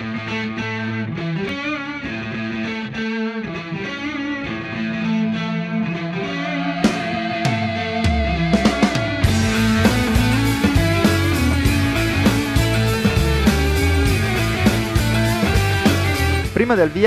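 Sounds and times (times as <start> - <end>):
rock music led by guitar: 0.0 - 17.0.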